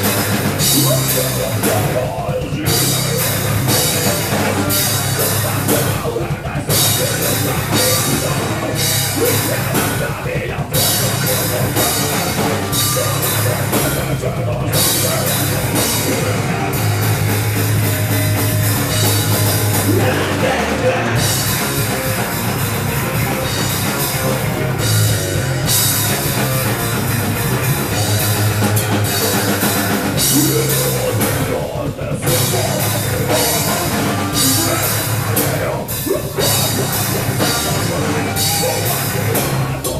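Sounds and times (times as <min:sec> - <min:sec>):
drum kit: 0:00.0 - 0:39.9
rock band playing heavy rock: 0:00.0 - 0:39.9.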